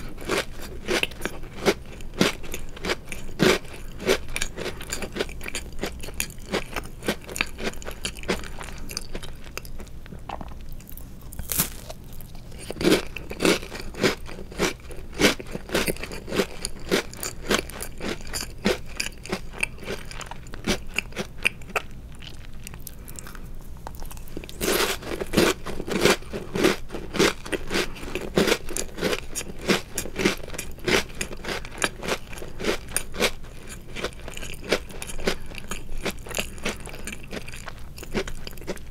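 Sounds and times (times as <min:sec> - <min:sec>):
crunching cookies: 0:00.0 - 0:38.9.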